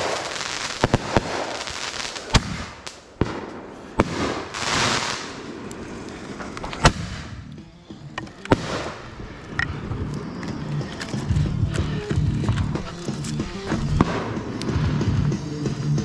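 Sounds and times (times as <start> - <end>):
fireworks bangs: 0.0 - 7.5, 8.3 - 15.4
fireworks hissing crackle: 0.0 - 16.0.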